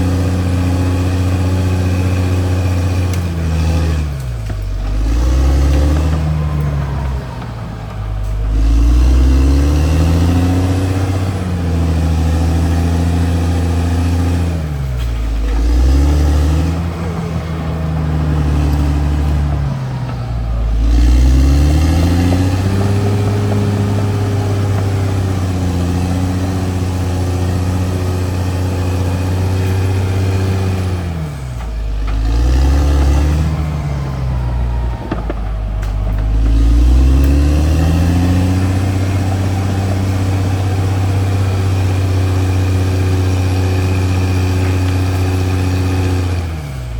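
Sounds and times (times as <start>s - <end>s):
bulldozer diesel engine under load: 0.0s - 46.9s.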